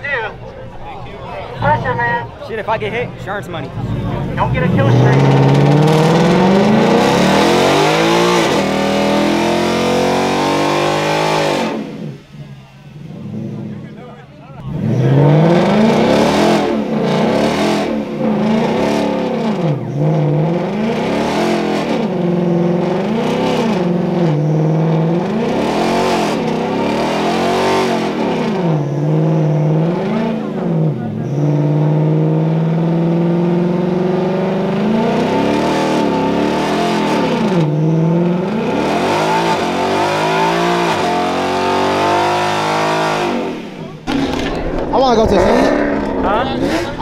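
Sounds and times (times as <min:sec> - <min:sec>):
car engine revving hard: 0:03.6 - 0:47.0.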